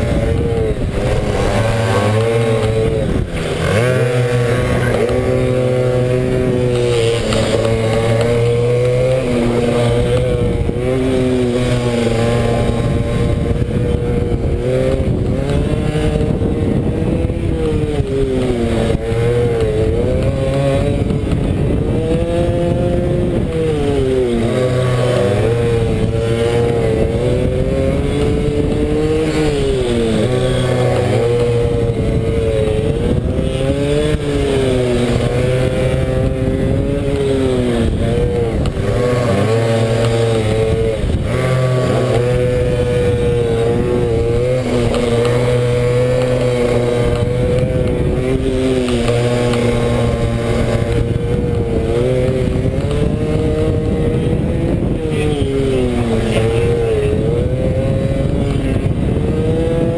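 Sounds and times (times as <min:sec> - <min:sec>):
motorbike engine revving hard: 0:00.0 - 0:59.9.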